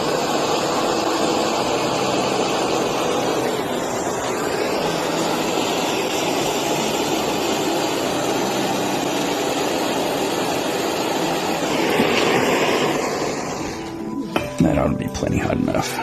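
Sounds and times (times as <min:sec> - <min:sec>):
torch flame burning: 0:00.0 - 0:14.7.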